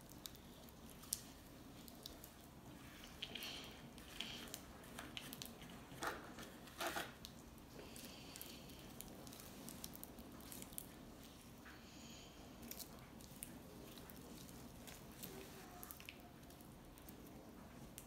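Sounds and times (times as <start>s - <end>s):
slime squishing: 0.0s - 11.8s, 12.4s - 18.0s.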